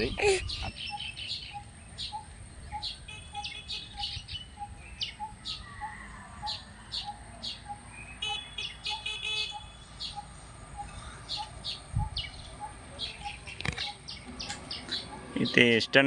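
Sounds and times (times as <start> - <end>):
buzzy bird trills: 0.0 - 15.9
small birds chirping: 0.0 - 16.0.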